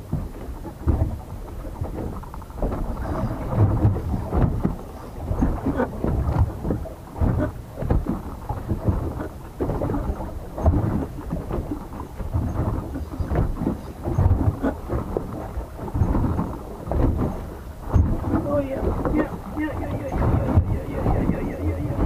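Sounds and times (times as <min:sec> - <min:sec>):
water slapping boat hull: 0:00.0 - 0:22.0
wind buffeting microphone: 0:00.0 - 0:22.0.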